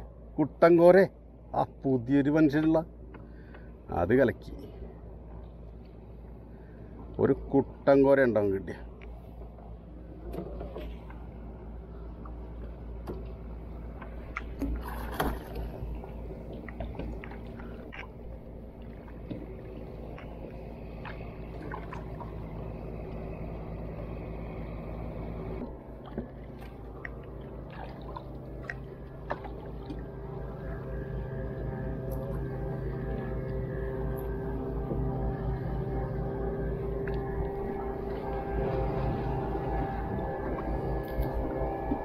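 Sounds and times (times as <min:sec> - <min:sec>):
boat engine humming: 0:00.0 - 0:42.0.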